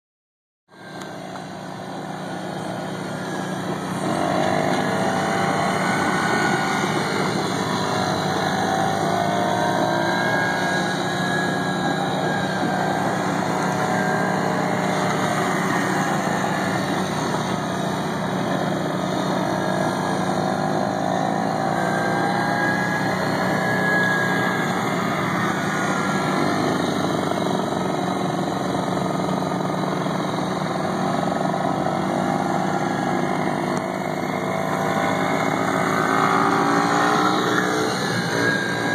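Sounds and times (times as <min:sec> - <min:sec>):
quad engine running: 0:00.7 - 0:38.9.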